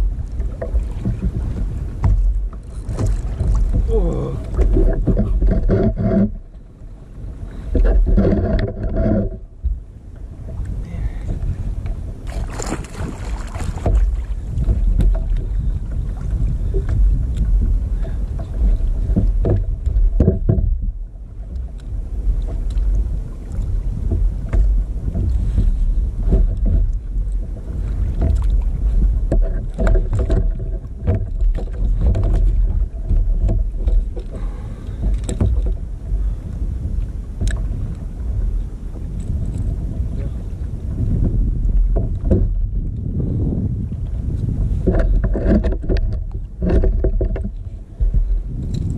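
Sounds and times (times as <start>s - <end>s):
knocks and clicks of fishing gear: 0.0s - 6.6s, 7.5s - 43.2s, 44.0s - 48.9s
water sloshing against kayak hull: 0.0s - 48.9s
wind buffeting microphone: 0.0s - 48.9s.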